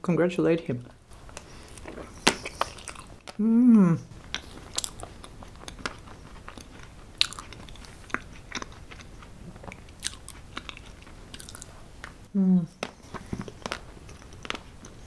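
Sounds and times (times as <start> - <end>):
person chewing: 1.3 - 15.0.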